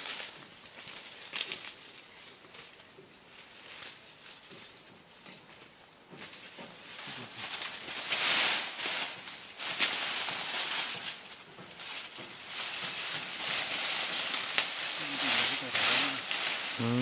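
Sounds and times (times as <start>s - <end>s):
grass swishing and rustling: 0.0s - 5.5s, 6.2s - 17.0s.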